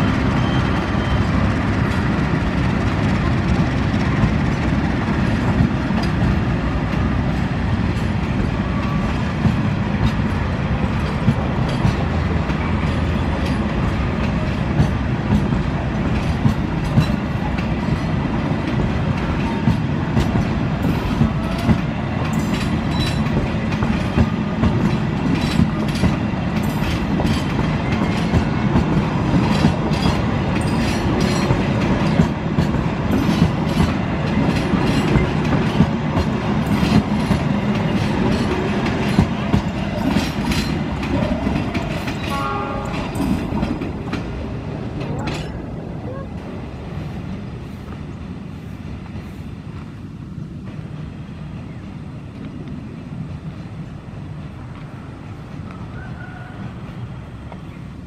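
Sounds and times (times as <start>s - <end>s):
wheels clacking over rail joints: 0.0s - 48.0s
train low rumble: 0.0s - 58.0s.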